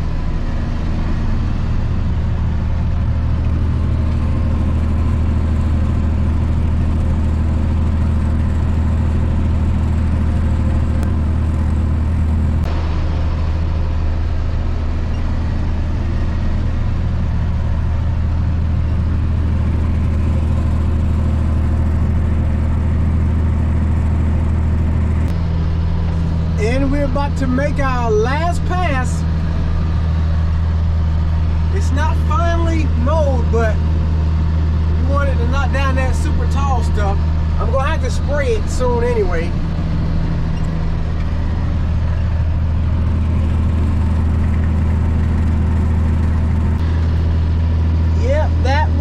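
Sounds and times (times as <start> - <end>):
tractor engine running under load: 0.0 - 49.0.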